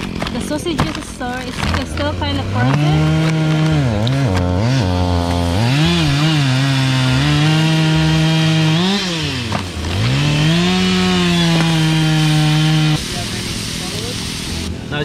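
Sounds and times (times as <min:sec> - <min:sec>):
chainsaw cutting firewood: 0:00.0 - 0:14.7.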